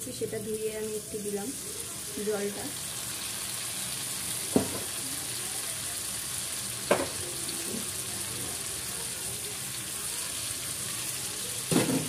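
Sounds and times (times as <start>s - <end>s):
curry sizzling in a pan: 0.0s - 12.0s.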